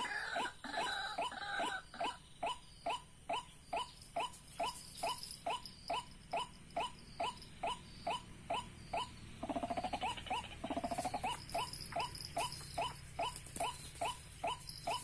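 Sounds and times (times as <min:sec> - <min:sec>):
bird rattling trill: 0:00.0 - 0:15.0.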